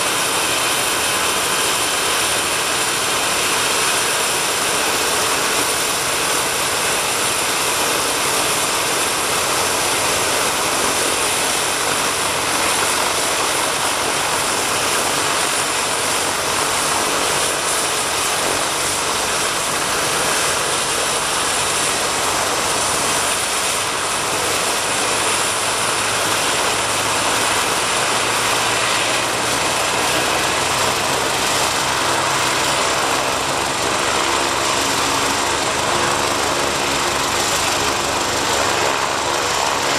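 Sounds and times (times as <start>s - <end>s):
helicopter rotors turning: 0.0s - 39.9s
turbine whine: 0.0s - 39.9s.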